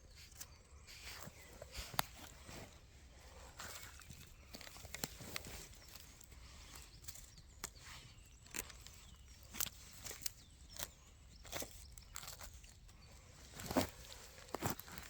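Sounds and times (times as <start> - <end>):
footsteps on dry leaves and twigs: 0.0 - 15.0.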